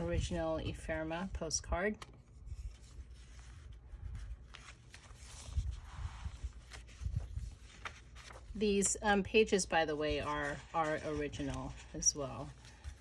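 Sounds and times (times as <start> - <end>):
paper rustling: 1.9 - 13.0.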